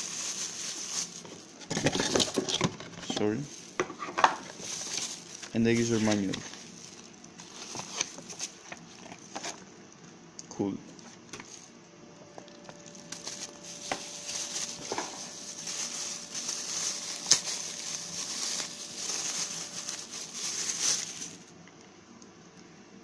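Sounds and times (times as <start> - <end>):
plastic packaging crinkling: 0.0 - 9.6, 11.0 - 11.8, 12.4 - 21.5.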